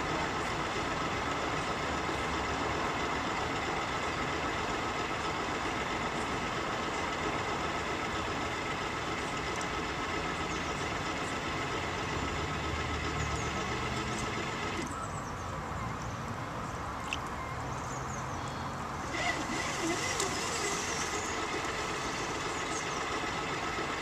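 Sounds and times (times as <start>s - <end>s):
boat motor humming with whine: 0.0s - 17.7s, 18.3s - 24.0s.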